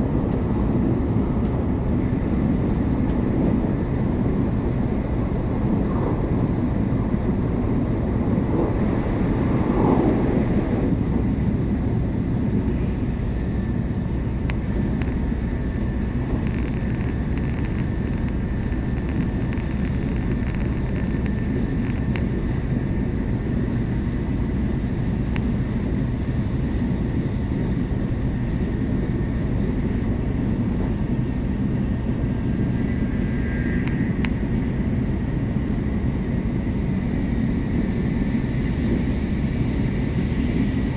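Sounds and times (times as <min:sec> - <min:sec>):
train rumble inside cabin: 0:00.0 - 0:40.9.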